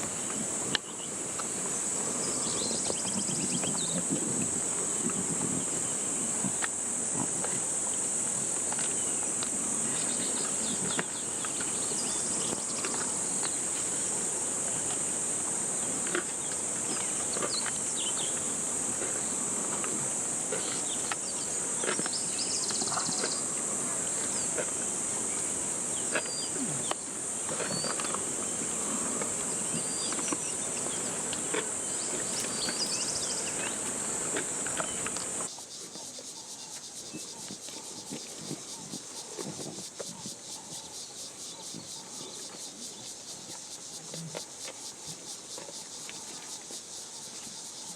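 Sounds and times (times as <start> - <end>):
insect chirps and clicks: 0.0 - 47.9
insects shrilling: 5.9 - 47.9.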